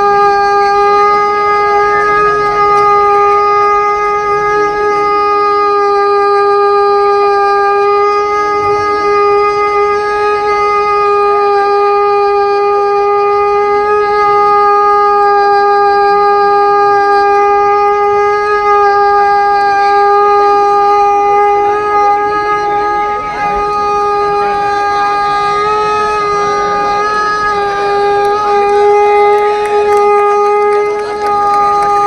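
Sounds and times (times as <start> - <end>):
conch shell blown: 0.0 - 32.0.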